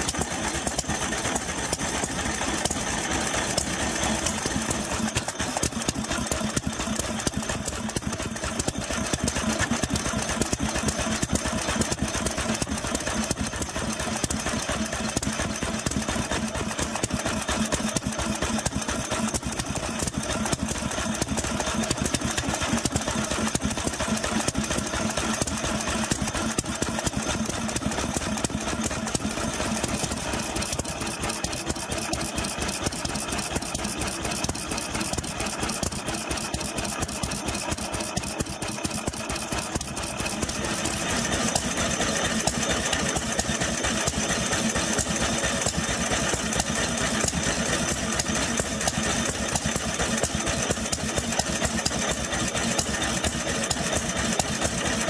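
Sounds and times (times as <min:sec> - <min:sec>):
stationary engines knocking: 0:00.0 - 0:55.0.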